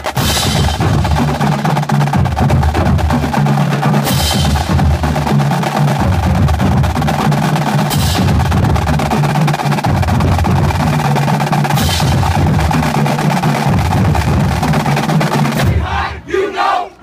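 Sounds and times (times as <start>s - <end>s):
pitched low drums: 0.0s - 16.2s.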